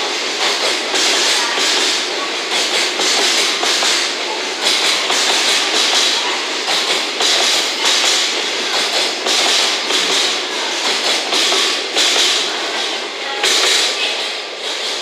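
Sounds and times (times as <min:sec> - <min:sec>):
train rolling rumble: 0:00.0 - 0:15.0
train wheels clattering: 0:00.0 - 0:15.0.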